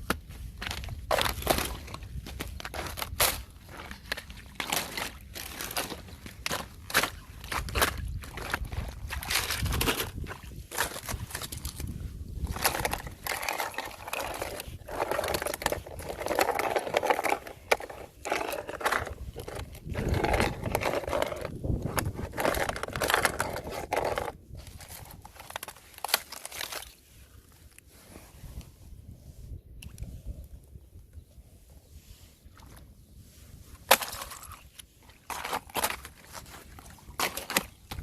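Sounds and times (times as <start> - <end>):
thin ice crunching underfoot: 0.0 - 27.6, 33.7 - 38.0.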